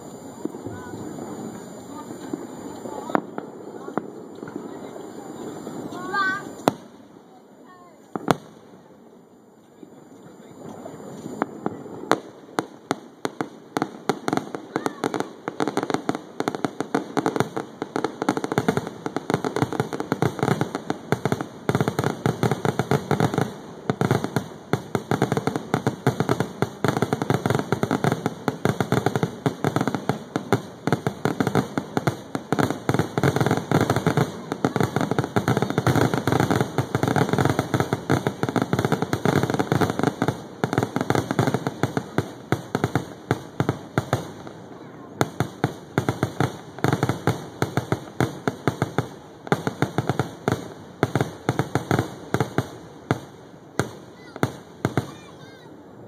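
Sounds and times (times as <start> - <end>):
fireworks cracking and popping: 0.0 - 55.8.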